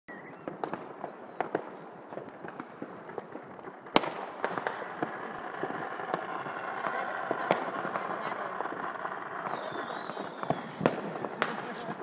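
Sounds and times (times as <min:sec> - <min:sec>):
firecrackers popping: 0:00.2 - 0:12.0
loud firework bang: 0:00.4 - 0:12.0.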